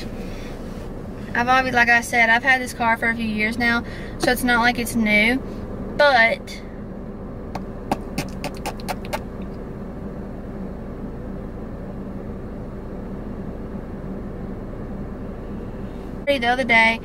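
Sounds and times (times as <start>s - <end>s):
air conditioning running: 0.0s - 17.0s
car engine idling: 0.0s - 17.0s.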